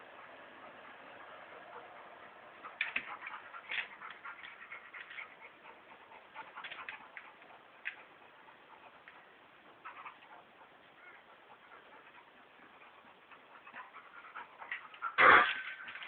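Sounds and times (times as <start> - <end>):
dogs clicking and scuffling: 2.5 - 16.0.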